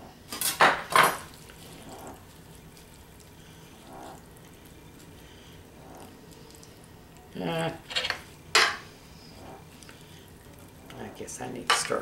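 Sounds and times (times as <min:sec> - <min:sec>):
moist squishing of stuffing: 0:01.2 - 0:11.3.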